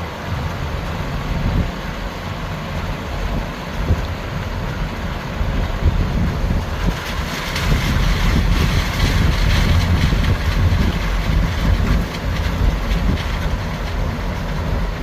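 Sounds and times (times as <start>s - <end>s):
steady rushing noise: 0.0s - 15.0s
vehicle rumble on bridge: 0.0s - 15.0s
wind buffeting microphone: 0.2s - 15.0s.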